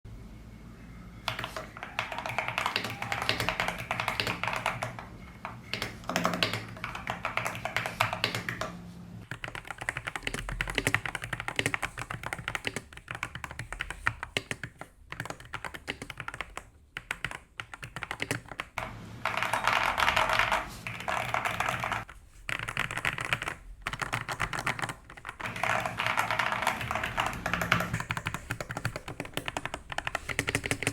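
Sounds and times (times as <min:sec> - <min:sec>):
fast keyboard typing: 0:01.2 - 0:30.9.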